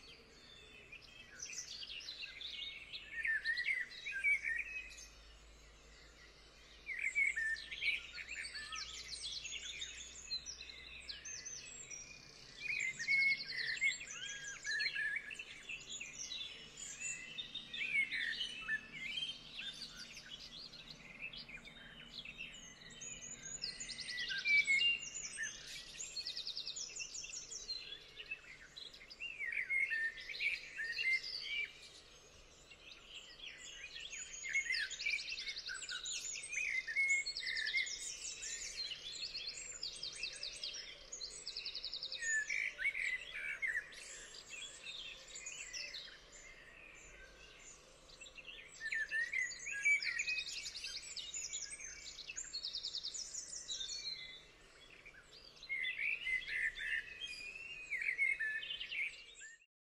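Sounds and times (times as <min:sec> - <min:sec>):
songbirds singing and calling: 0:00.0 - 0:59.7.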